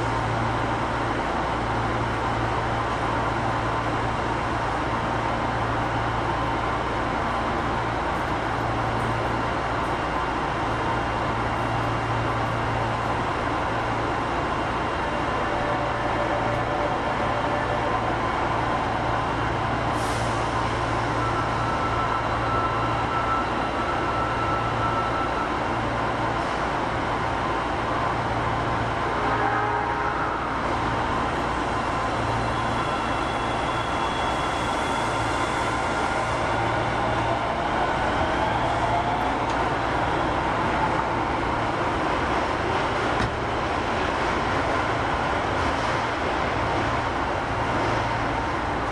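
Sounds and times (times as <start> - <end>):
subway train equipment hum: 0.0 - 48.9.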